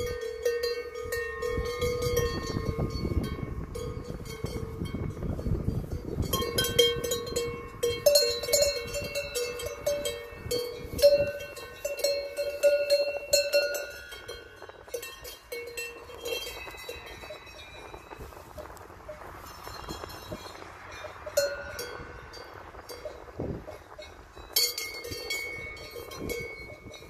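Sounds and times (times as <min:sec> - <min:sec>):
cowbells clanking: 0:00.0 - 0:27.0.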